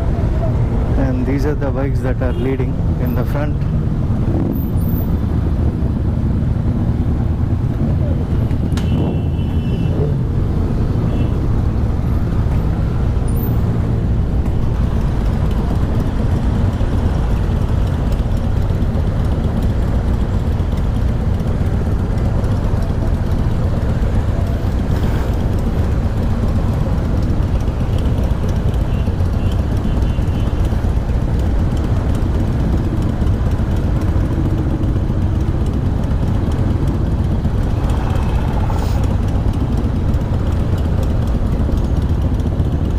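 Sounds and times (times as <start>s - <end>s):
motorcycle engines running: 0.0s - 42.9s.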